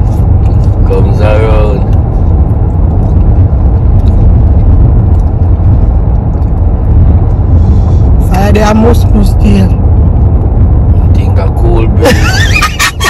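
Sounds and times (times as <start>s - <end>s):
car tyre and road rumble: 0.0s - 13.0s.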